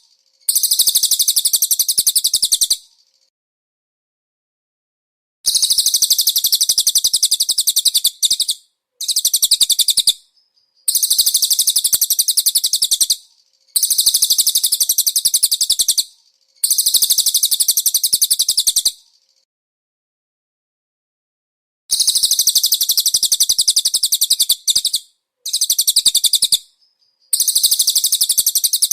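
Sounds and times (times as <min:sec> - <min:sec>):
songbird rattling trill: 0:00.0 - 0:03.3, 0:05.5 - 0:19.5, 0:21.9 - 0:28.9.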